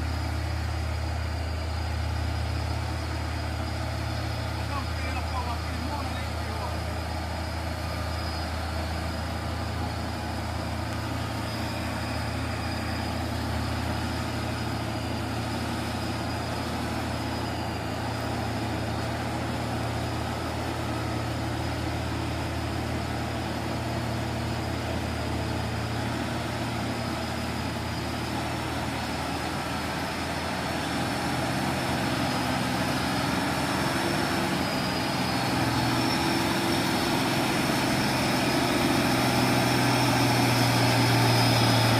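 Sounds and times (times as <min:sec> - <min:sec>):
thin high whine: 0:00.0 - 0:41.9
truck diesel engine running: 0:00.0 - 0:41.9.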